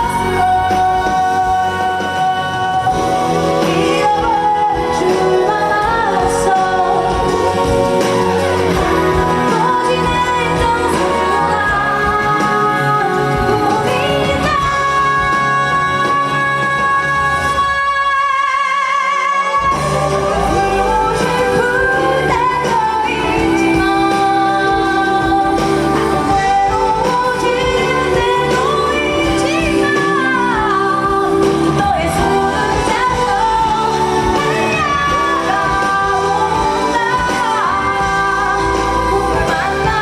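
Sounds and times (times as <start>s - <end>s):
band accompaniment: 0.0s - 40.0s
woman singing: 0.0s - 40.0s.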